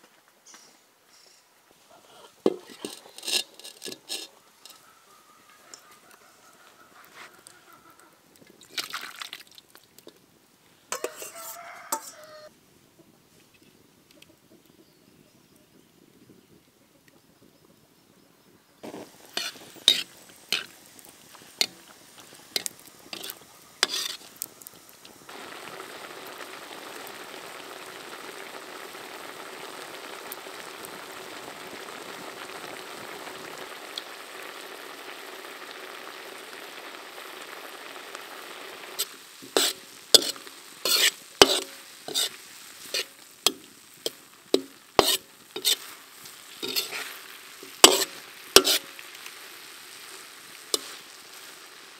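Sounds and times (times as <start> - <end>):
batter sizzling in hot oil: 2.4 - 10.3, 10.9 - 12.5, 18.8 - 51.9.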